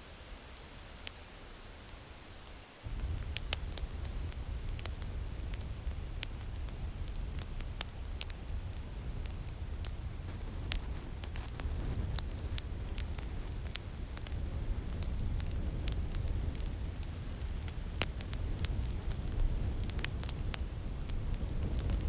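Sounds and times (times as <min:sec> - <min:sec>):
low rumble of wind: 0:00.0 - 0:22.0
fire crackling and popping: 0:00.1 - 0:22.0.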